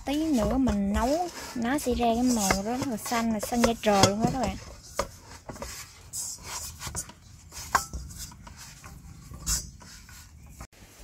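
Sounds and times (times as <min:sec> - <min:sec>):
dough kneaded in metal bowl: 0:00.0 - 0:11.0.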